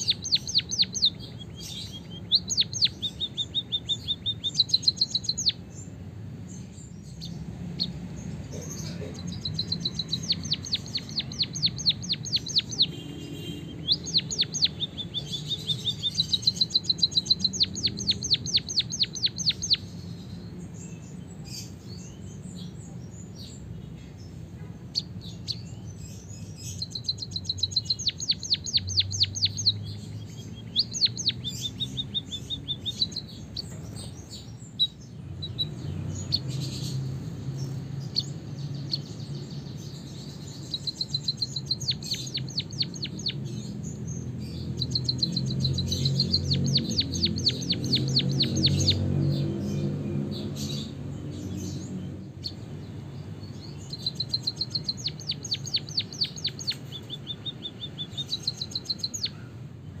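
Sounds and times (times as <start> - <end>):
bird singing rapid high notes: 0.0 - 23.7, 24.8 - 59.4.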